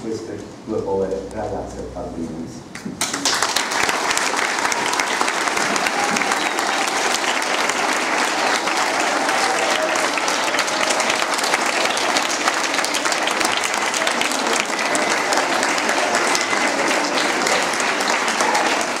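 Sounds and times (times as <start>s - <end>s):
audience applauding: 3.0s - 19.0s.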